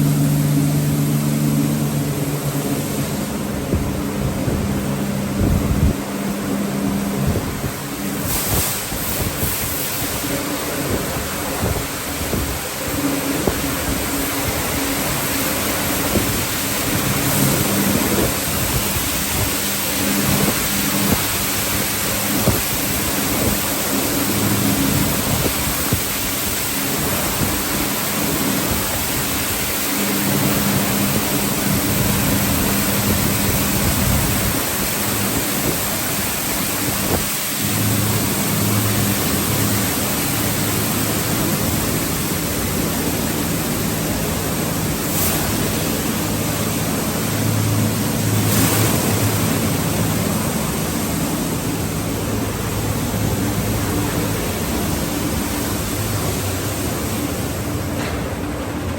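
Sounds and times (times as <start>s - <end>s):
low hum of pumps and motors: 0.0s - 58.9s
water spraying over car: 0.0s - 58.9s.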